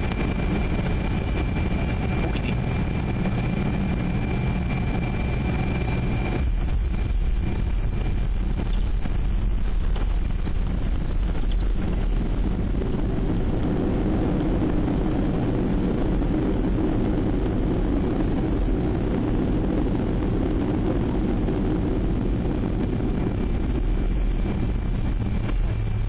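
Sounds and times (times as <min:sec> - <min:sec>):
airliner cabin engine roar: 0:00.0 - 0:26.0.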